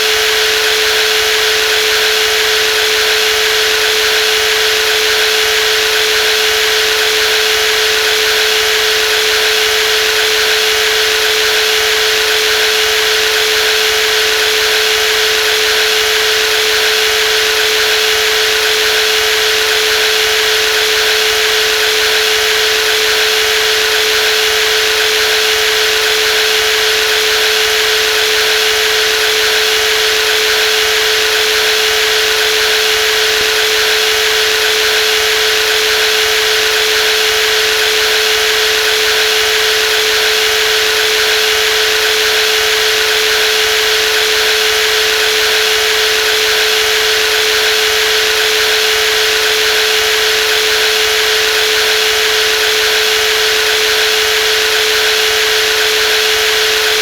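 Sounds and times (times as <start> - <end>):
jigsaw motor whining: 0.0 - 57.0.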